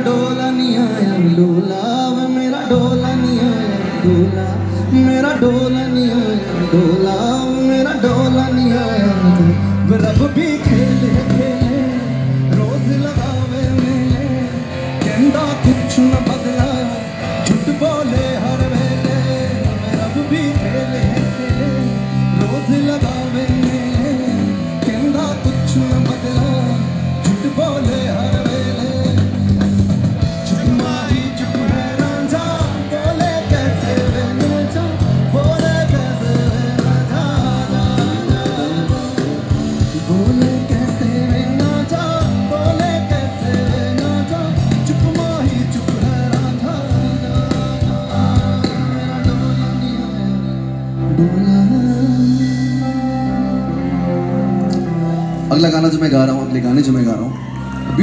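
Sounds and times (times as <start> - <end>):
person singing: 0.0 - 55.6
guitar: 0.0 - 58.0
live rock band: 0.0 - 58.0.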